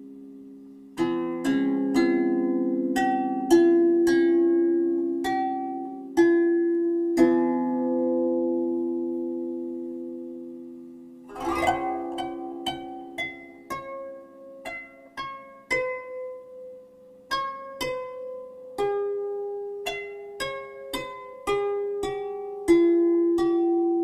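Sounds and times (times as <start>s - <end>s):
plucked-string melody: 0.0s - 24.0s.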